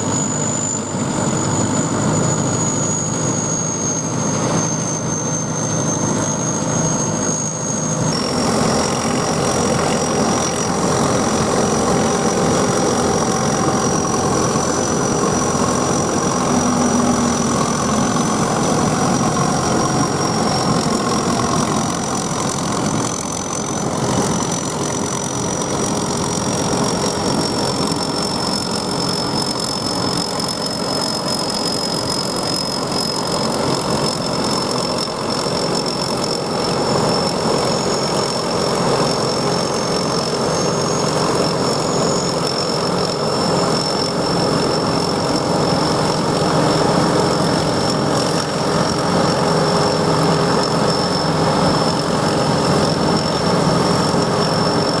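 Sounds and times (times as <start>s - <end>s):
harvester engine and threshing machinery: 0.0s - 55.0s
high mechanical whine: 0.0s - 55.0s.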